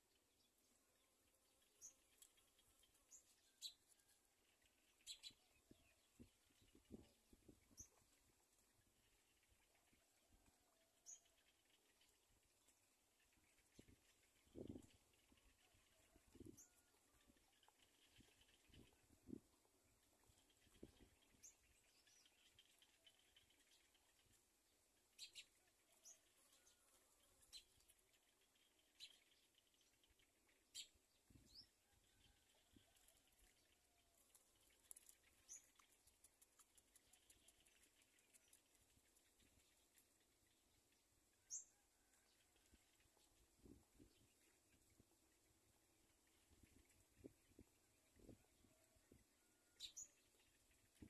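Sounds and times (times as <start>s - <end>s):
faint bird chirps: 0.0s - 51.0s.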